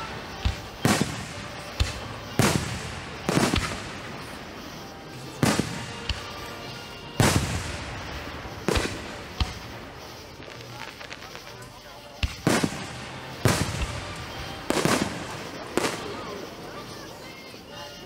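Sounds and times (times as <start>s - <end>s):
fireworks booming: 0.0s - 16.9s.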